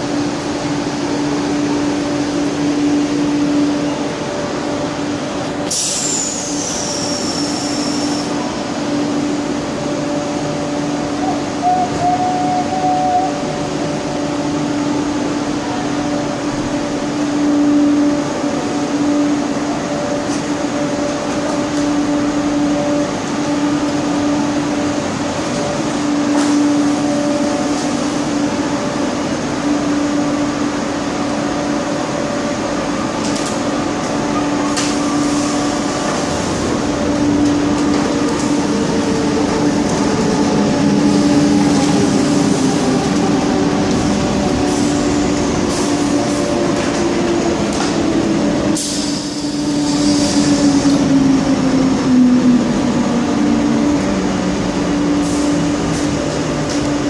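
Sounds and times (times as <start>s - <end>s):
electric train hum: 0.0s - 57.0s.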